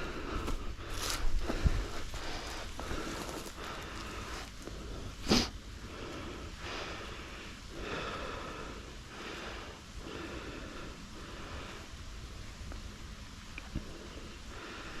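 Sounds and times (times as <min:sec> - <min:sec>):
heavy breathing: 0:00.0 - 0:12.1, 0:13.8 - 0:15.0.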